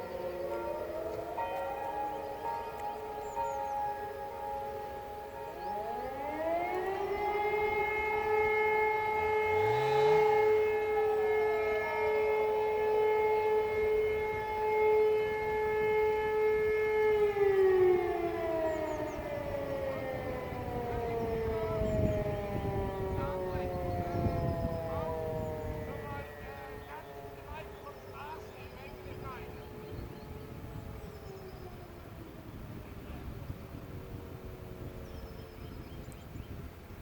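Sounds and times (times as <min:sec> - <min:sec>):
motor-driven siren wailing: 0:00.0 - 0:36.8.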